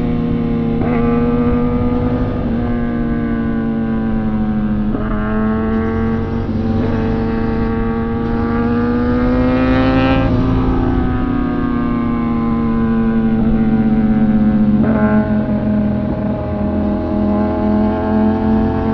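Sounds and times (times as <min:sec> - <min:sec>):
motorcycle engine accelerating: 0:00.0 - 0:18.9
wind rumbling on microphone: 0:00.0 - 0:18.9.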